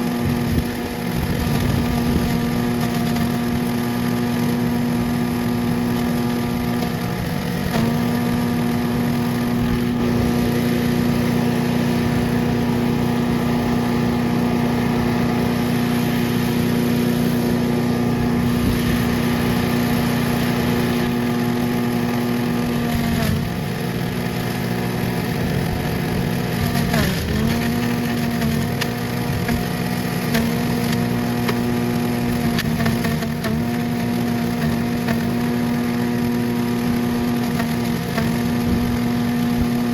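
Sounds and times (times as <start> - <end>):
chipper shredder engine running: 0.0 - 39.9
leaves being shredded: 0.0 - 39.9.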